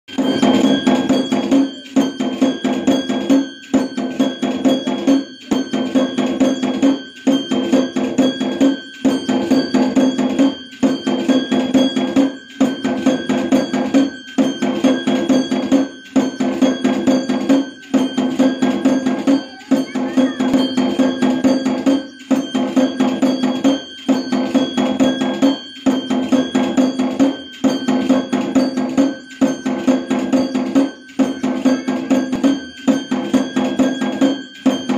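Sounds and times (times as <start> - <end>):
fast steady percussion: 0.0 - 34.9
temple bells ringing: 0.1 - 34.9.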